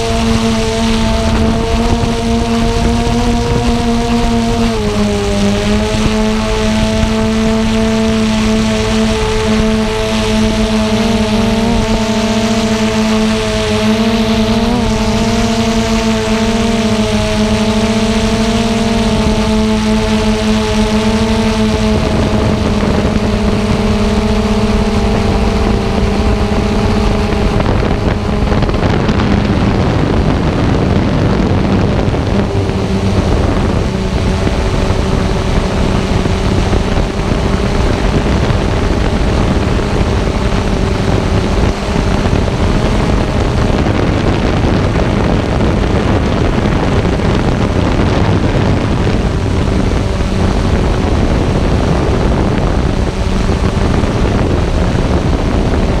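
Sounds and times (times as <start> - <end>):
drone propellers humming: 0.0 - 56.0
wind on microphone: 0.0 - 56.0.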